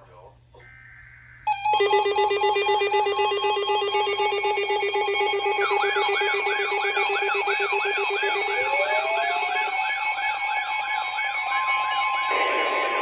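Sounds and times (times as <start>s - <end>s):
warbling alarm tone: 1.4s - 13.0s
pulsing alarm buzz: 1.5s - 13.0s.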